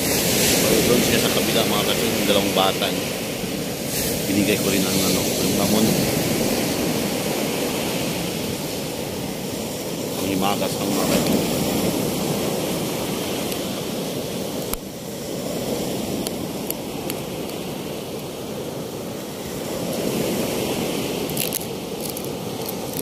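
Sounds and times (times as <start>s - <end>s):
waves: 0.0s - 23.0s
wind on microphone: 0.0s - 23.0s.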